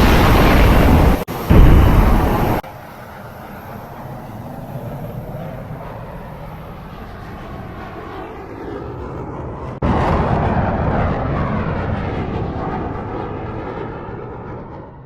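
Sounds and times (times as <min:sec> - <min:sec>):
airliner rumbling in flight: 0:00.0 - 0:15.0.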